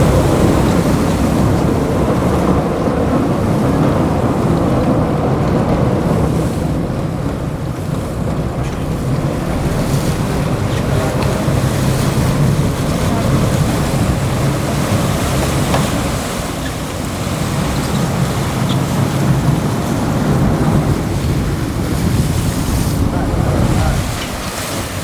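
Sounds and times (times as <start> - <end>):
boat engines running: 0.0 - 25.0
water rushing along hull: 0.0 - 25.0
wind buffeting microphone: 0.0 - 25.0.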